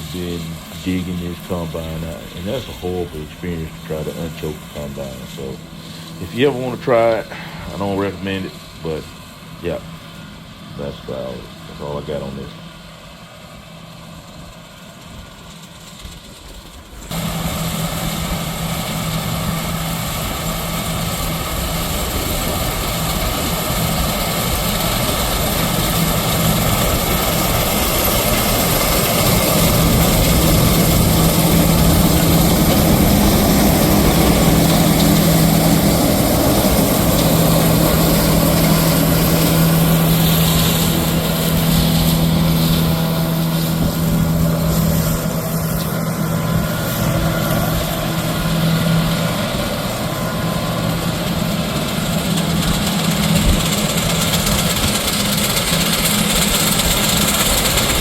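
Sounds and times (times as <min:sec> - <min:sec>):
steady low hum: 0:00.0 - 0:14.5, 0:16.1 - 0:58.0
combine engine and threshing drone: 0:00.0 - 0:58.0.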